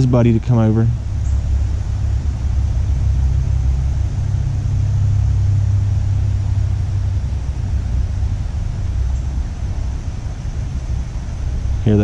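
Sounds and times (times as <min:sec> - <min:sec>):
faint hiss: 0:00.0 - 0:12.0
low rumble: 0:00.0 - 0:12.0.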